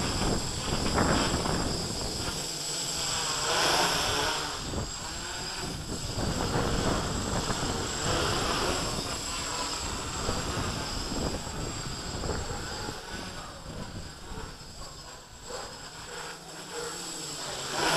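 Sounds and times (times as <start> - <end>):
wind rumbling on microphone: 0.0 - 15.7
drone propellers whining: 0.0 - 17.9.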